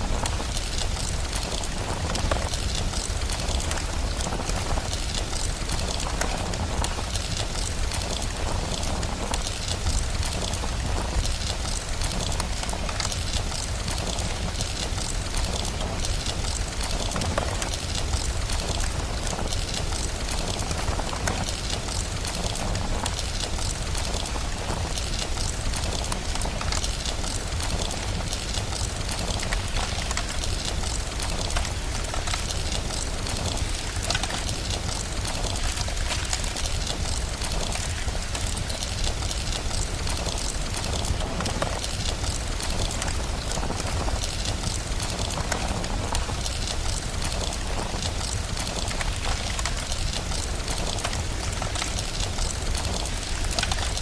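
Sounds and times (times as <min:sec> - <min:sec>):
continuous low rumble: 0:00.0 - 0:54.0
steady rain: 0:00.0 - 0:54.0
wood fire crackling: 0:00.0 - 0:54.0.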